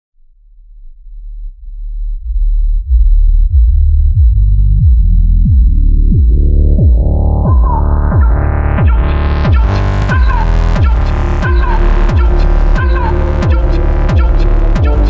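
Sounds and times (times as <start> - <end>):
pulsing synthesizer bass: 0.2 - 15.0.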